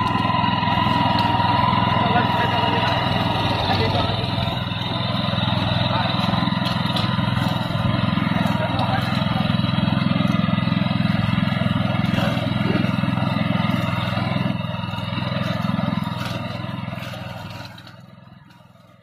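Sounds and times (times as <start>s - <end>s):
cutting shaft clatter: 0.0s - 19.0s
grass cutter engine running: 0.0s - 19.0s.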